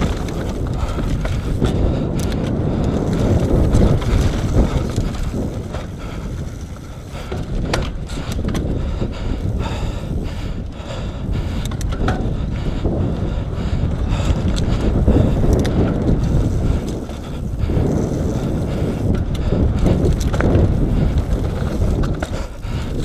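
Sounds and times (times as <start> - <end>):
bike rattling clicks: 0.0 - 23.0
bike tyre rumble: 0.0 - 23.0
wind buffeting microphone: 0.0 - 23.0.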